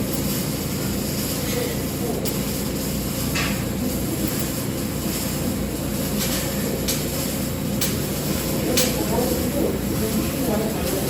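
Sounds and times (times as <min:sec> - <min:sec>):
welding arc hissing: 0:00.0 - 0:11.0
workshop rumble: 0:00.0 - 0:11.0.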